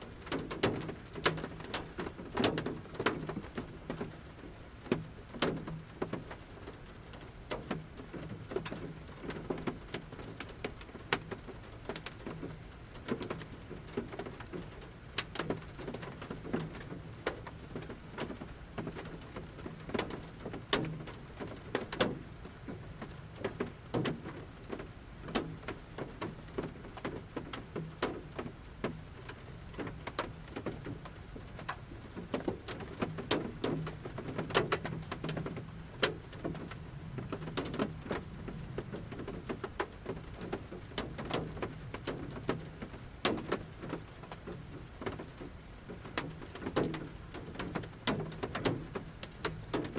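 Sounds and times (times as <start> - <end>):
faint rain hiss: 0.0 - 49.9
raindrops tapping on van roof: 0.0 - 49.9.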